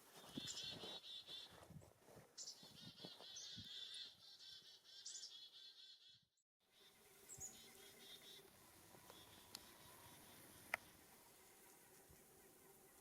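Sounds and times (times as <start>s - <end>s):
small birds chirping: 0.1s - 1.8s, 2.4s - 13.0s.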